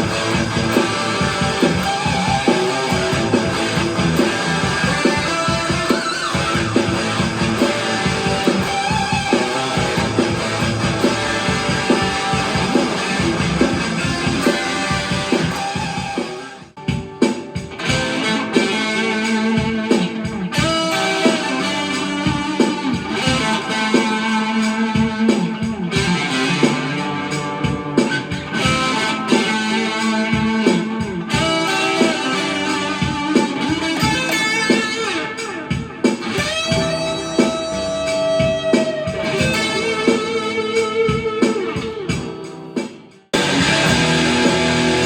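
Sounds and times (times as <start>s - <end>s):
overdriven electric guitar: 0.0s - 45.0s.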